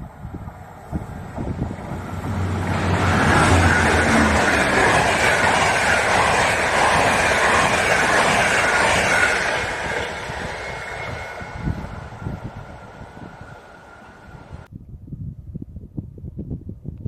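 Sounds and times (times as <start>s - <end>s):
train passing on rails: 0.0s - 14.7s.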